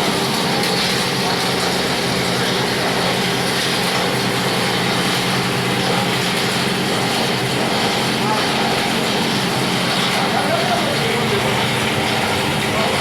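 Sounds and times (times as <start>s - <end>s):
plastic grinder machine humming: 0.0s - 13.0s.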